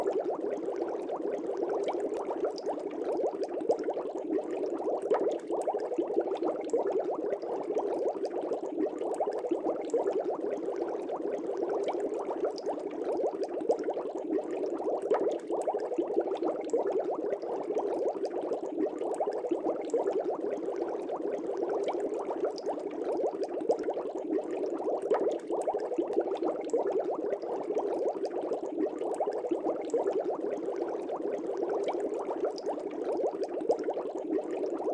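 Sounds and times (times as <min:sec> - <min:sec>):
aquarium water bubbling: 0:00.0 - 0:34.9.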